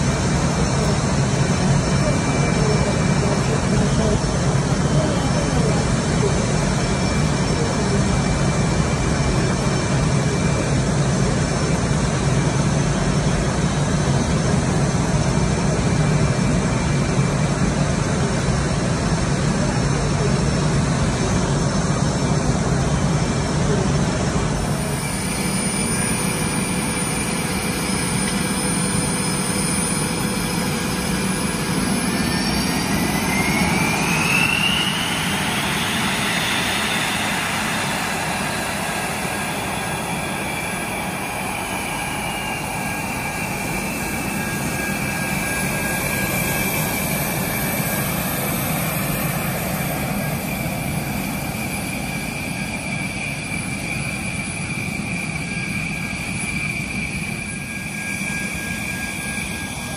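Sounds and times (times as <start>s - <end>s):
jet engine running: 0.0s - 59.9s
rising whine: 0.0s - 59.9s.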